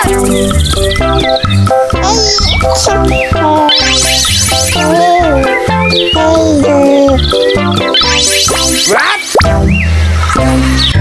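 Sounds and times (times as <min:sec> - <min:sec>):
upbeat children's music: 0:00.0 - 0:09.8.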